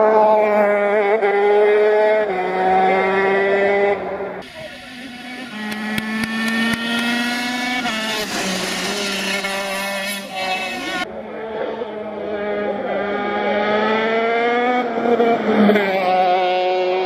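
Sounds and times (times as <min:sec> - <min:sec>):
kart engine at high revs: 0:00.0 - 0:17.0.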